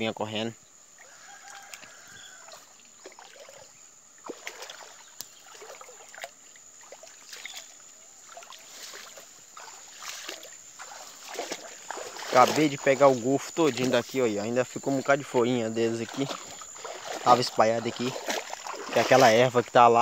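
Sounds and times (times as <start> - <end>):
wading through water splashing: 0.9 - 20.0.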